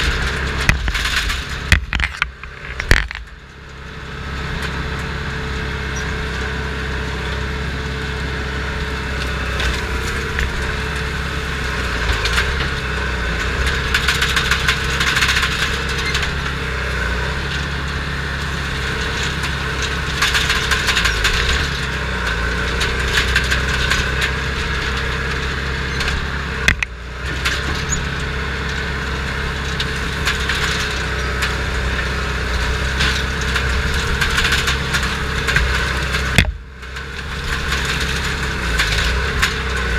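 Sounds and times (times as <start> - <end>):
wood cracking and splintering: 0.0 - 3.5, 8.3 - 39.9
bulldozer diesel engine running: 0.0 - 39.9.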